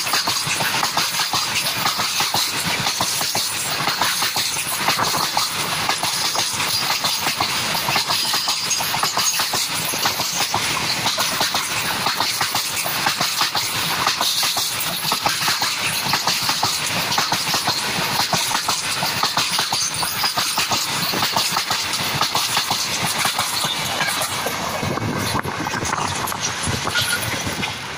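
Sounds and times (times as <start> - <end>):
wheel clicks over rail joints: 0.0 - 27.8
freight train rolling past: 0.0 - 27.9.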